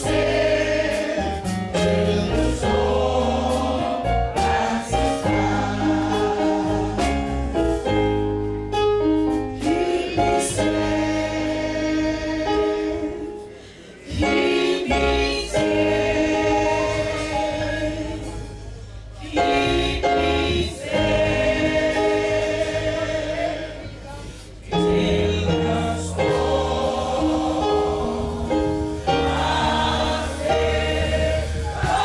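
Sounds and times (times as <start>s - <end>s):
choir singing a hymn: 0.0s - 32.0s
instrumental backing with bass: 0.0s - 32.0s.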